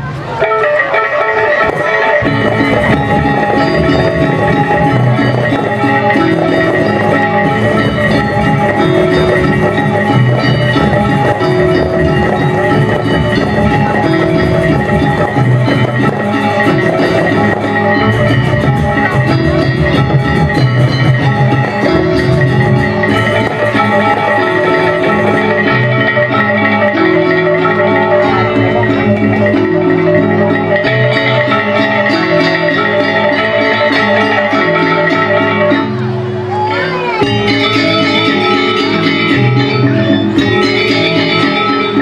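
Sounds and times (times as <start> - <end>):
gamelan metallophones ringing: 0.0 - 42.0.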